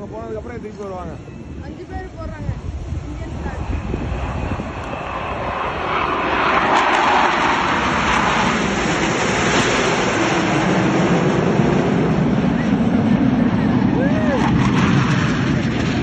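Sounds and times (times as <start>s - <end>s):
military aircraft engine rush: 0.0s - 16.0s.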